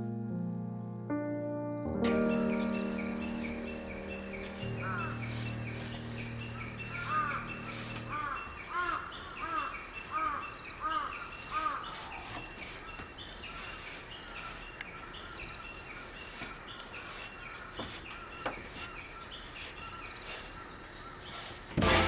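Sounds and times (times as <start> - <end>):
small birds chirping: 2.1 - 21.8
outdoor background noise: 2.1 - 22.0.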